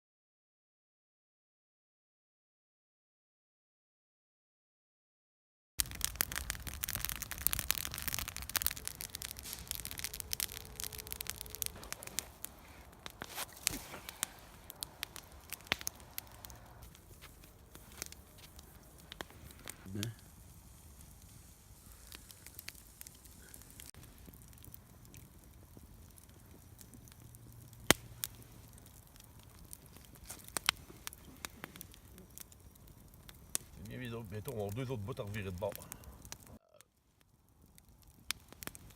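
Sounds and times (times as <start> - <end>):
sharp fire pops: 5.8 - 36.6, 37.7 - 38.9
campfire crackling: 5.8 - 38.9.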